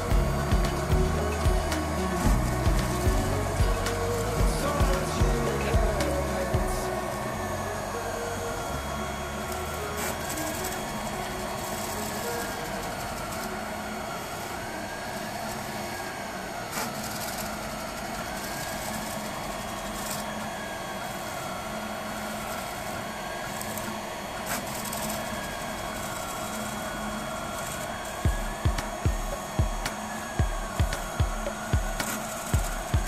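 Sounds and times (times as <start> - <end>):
rising and falling whine: 0.0 - 33.0
stepper motors whirring: 0.0 - 33.0.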